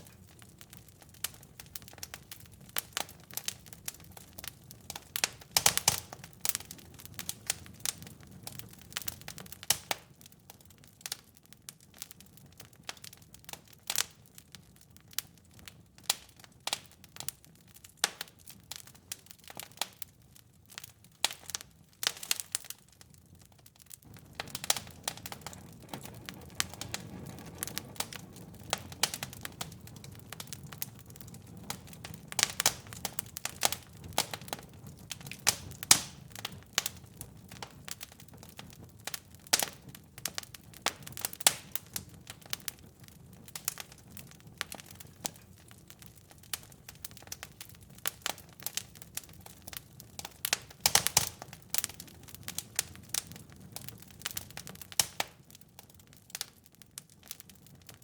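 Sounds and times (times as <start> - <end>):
low rumble of fire: 0.0 - 58.0
wood fire crackling and popping: 0.0 - 58.0.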